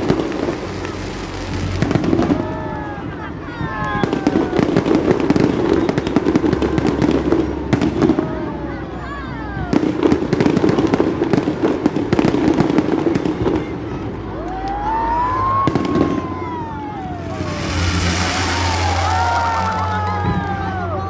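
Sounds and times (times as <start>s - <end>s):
fireworks whistling: 0.0s - 8.3s, 9.6s - 20.8s
fireworks crackling bursts: 0.0s - 21.0s.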